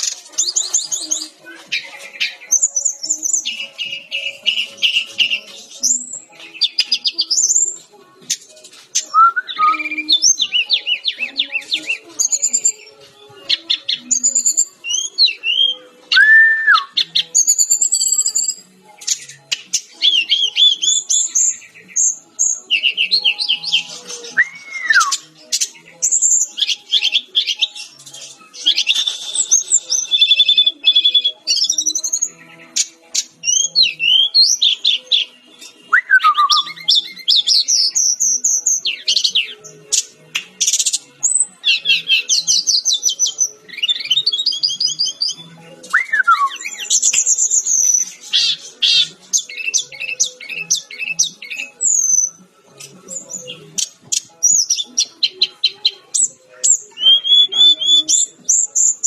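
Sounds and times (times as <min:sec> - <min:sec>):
bird singing trills and whistles: 0:00.0 - 0:59.0.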